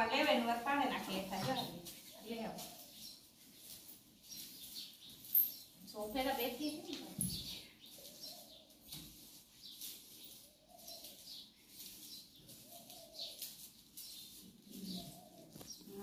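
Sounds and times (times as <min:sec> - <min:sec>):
broom sweeping tiled floor: 0:00.0 - 0:16.0.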